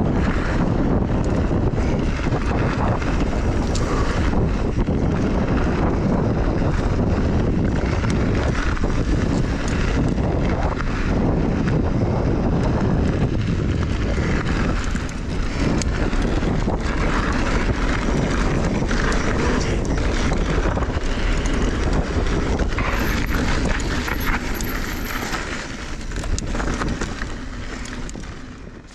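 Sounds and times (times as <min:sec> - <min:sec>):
bike clicking and rattling: 0:00.0 - 0:28.9
bike tyres on dirt: 0:00.0 - 0:28.9
wind buffeting microphone: 0:00.0 - 0:28.9.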